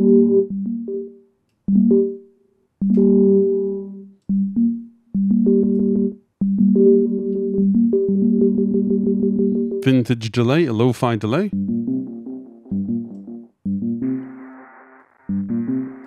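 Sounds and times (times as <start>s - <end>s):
synthesizer with delay: 0.0s - 10.0s, 11.5s - 16.0s.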